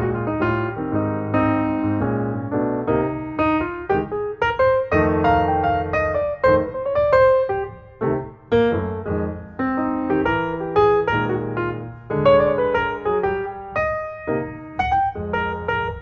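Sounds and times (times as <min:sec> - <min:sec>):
gentle solo piano melody: 0:00.0 - 0:16.0.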